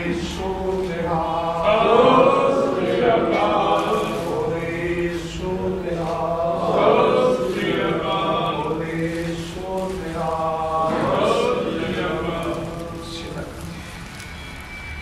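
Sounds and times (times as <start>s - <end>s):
group of voices chanting: 0.0s - 9.5s, 10.2s - 13.1s.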